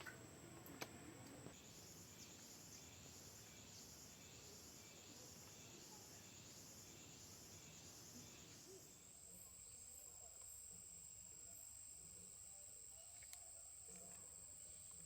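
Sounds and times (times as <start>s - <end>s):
insect chirring: 1.5s - 15.0s.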